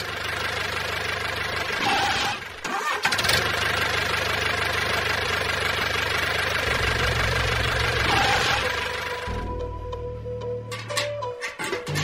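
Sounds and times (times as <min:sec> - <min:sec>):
tractor engine starting and running: 0:00.0 - 0:12.0.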